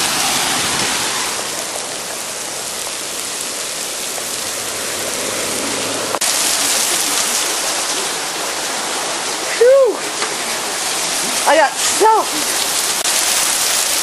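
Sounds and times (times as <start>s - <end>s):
heavy rain and hail on concrete: 0.0s - 14.0s.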